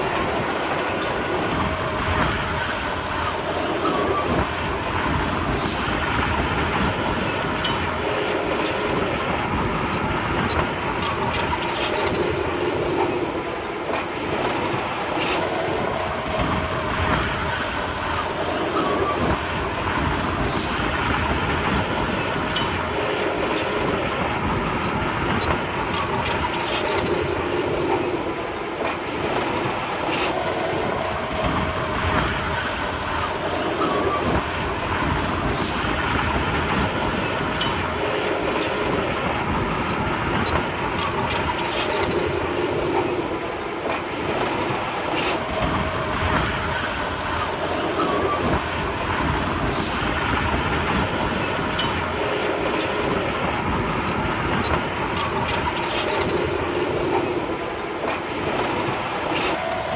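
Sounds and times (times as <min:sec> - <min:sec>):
steel tracks clanking: 0:00.0 - 0:59.9.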